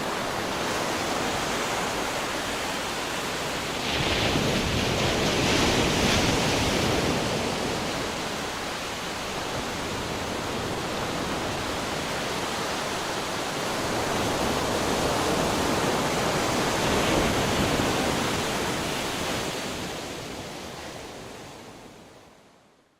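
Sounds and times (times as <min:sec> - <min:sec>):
sea waves breaking on shore: 0:00.0 - 0:22.2.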